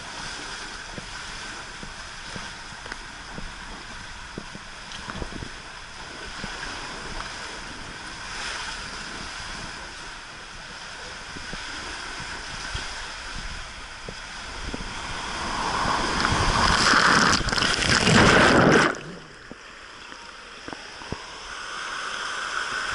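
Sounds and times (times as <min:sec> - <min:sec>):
wind noise on microphone: 0:00.0 - 0:19.6
water rushing down a slide: 0:00.0 - 0:22.9.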